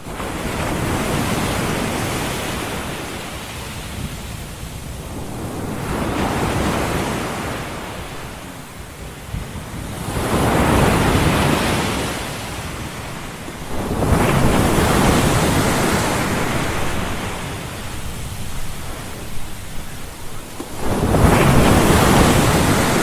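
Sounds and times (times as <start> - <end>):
ocean waves washing ashore: 0.0 - 23.0.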